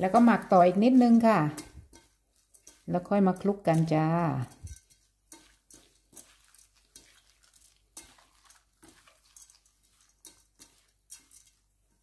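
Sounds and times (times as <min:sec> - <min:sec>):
rustling of mixing rice: 0:00.0 - 0:12.0.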